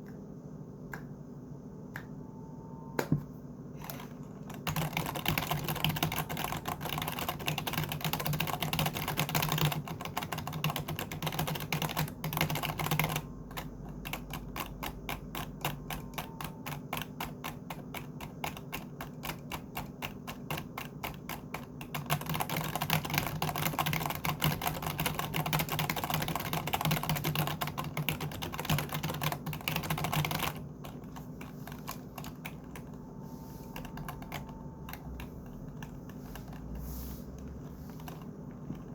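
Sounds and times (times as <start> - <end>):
typing on computer keyboard: 3.8 - 33.0, 33.8 - 38.9.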